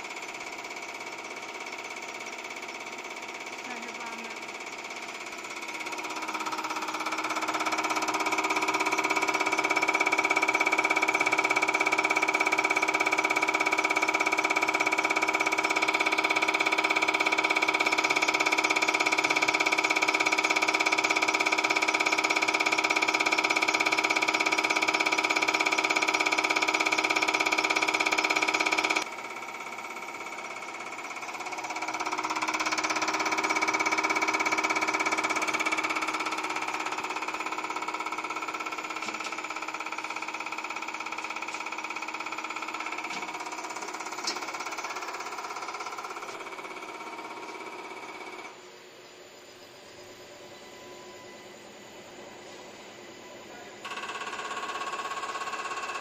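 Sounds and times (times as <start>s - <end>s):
machine hum with high tone: 0.0s - 56.0s.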